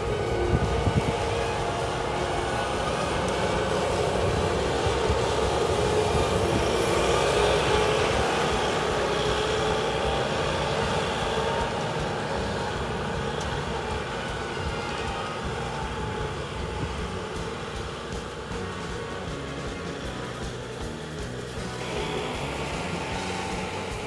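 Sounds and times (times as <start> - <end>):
diesel engine running hard: 0.0 - 24.0.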